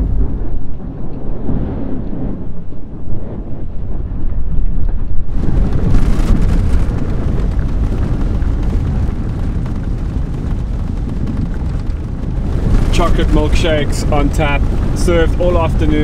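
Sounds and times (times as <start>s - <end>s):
thunder rumbling: 0.0s - 16.0s
wind: 0.0s - 16.0s
rain: 2.7s - 16.0s.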